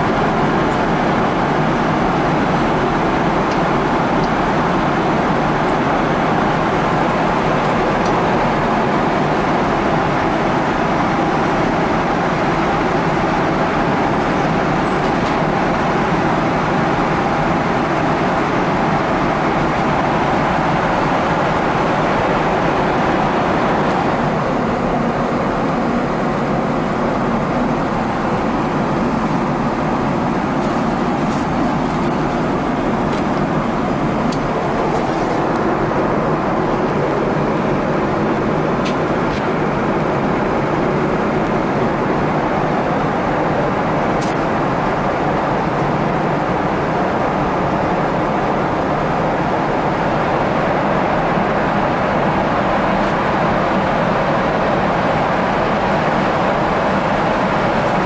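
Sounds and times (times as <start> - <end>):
airplane cabin noise: 0.0 - 58.0.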